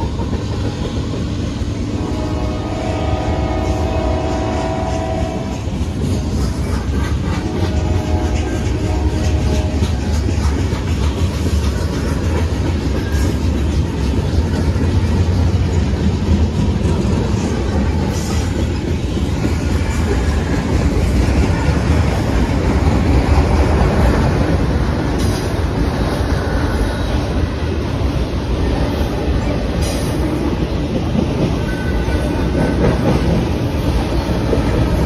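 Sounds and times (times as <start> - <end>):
freight cars rumbling on rails: 0.0 - 35.0.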